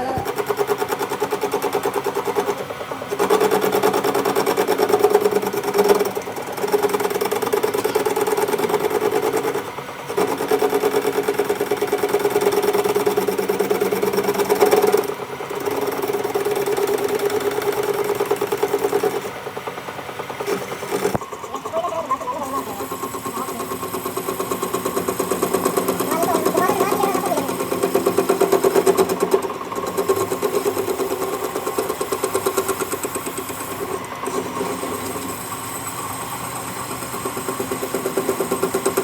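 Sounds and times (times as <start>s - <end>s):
metalworking machine humming and rattling: 0.0s - 39.0s.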